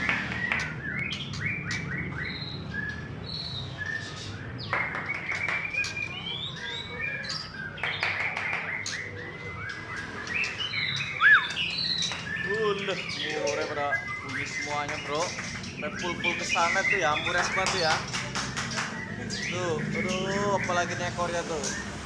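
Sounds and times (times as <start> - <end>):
songbirds chirping chorus: 0.0 - 22.0.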